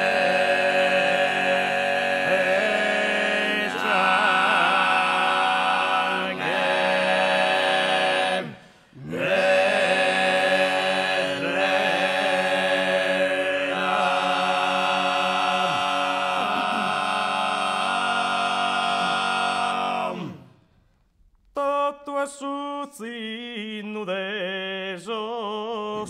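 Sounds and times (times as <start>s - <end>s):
male voices singing a cappella: 0.0s - 20.5s, 21.6s - 26.0s.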